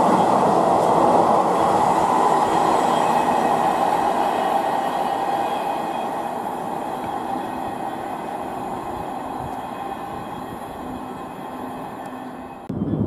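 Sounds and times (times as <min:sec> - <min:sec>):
high wheel squealing: 0:00.0 - 0:12.7
freight train wheels rumbling: 0:00.0 - 0:13.0.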